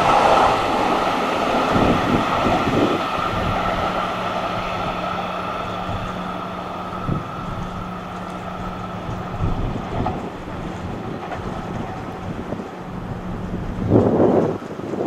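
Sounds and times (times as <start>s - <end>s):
electric train humming: 0.0s - 15.0s
high whine of train: 0.0s - 15.0s
wind noise on microphone: 0.0s - 15.0s.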